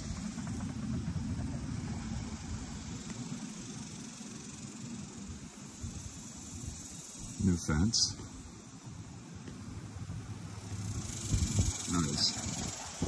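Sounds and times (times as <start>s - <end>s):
low uneven rumble: 0.0s - 13.0s
faint steady hiss: 1.6s - 13.0s.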